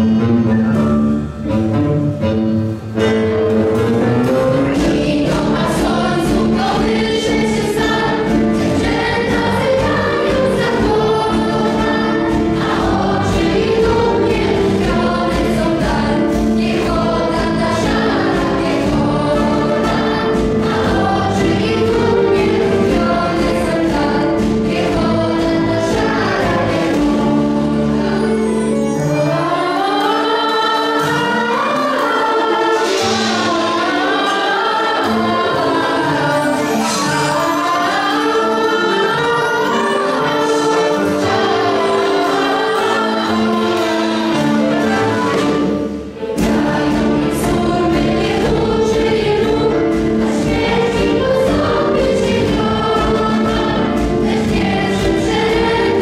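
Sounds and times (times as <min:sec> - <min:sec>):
symphony orchestra: 0:00.0 - 0:56.0
large choir singing: 0:00.1 - 0:56.0.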